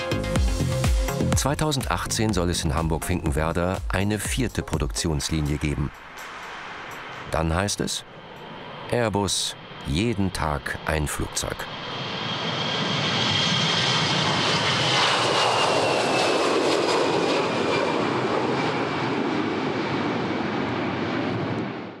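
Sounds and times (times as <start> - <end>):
jet airliner taking off: 0.4 - 22.0.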